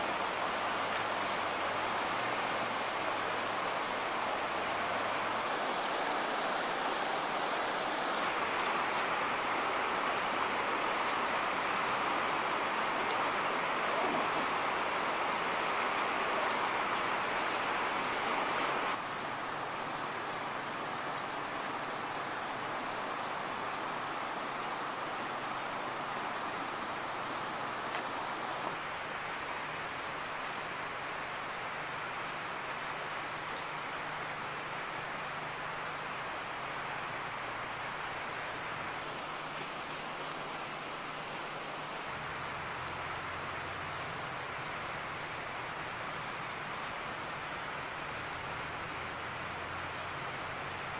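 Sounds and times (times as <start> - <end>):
forest background hiss: 0.0 - 50.9
insects calling high-pitched: 0.0 - 50.9.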